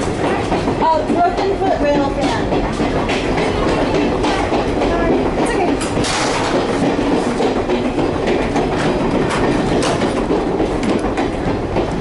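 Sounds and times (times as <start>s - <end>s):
train car rumbling: 0.0s - 12.0s
wheels clicking over rails: 0.0s - 12.0s.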